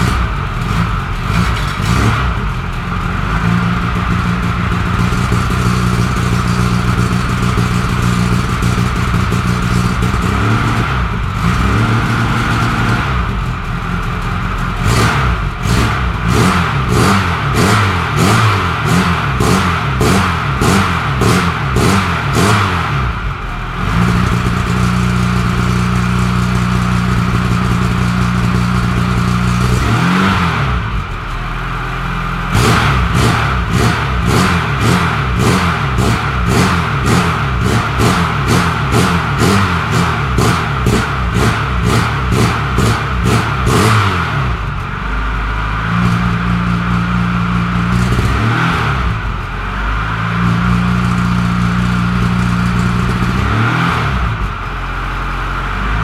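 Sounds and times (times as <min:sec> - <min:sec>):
car engine surging at idle: 0:00.0 - 0:56.0.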